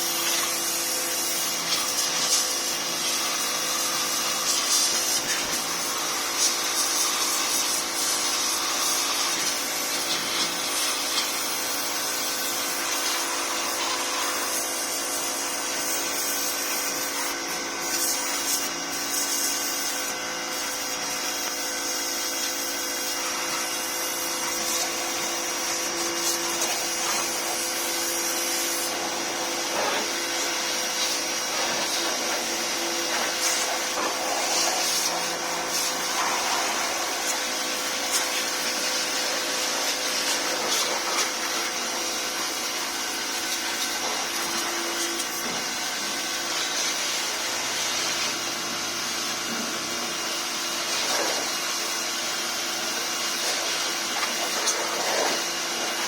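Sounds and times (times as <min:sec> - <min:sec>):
machine whirring with hiss and hum: 0:00.0 - 0:56.0.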